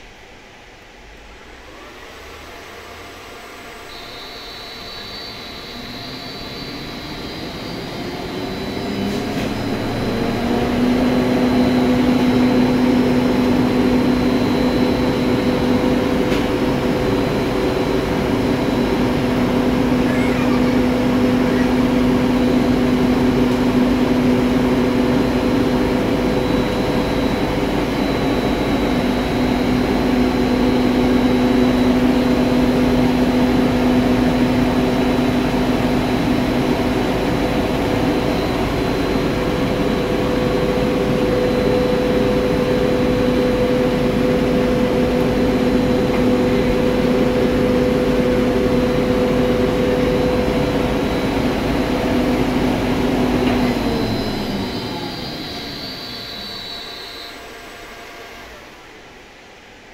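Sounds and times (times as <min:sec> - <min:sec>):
high whine: 0:00.0 - 0:59.9
electric motor humming: 0:01.4 - 0:59.2.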